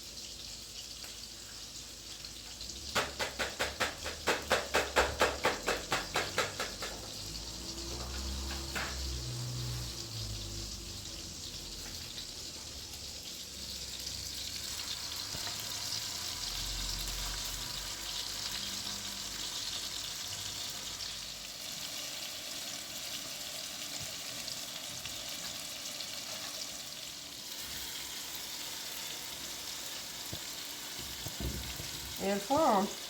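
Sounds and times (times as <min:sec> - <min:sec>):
meat sizzling: 0:00.0 - 0:33.0.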